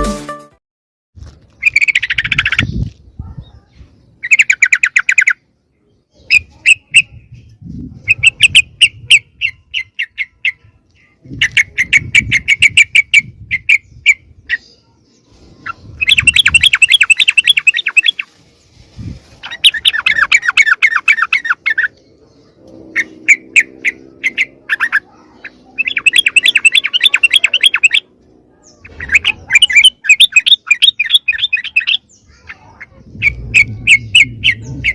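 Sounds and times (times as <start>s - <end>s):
bulbuls chattering: 1.6s - 34.9s.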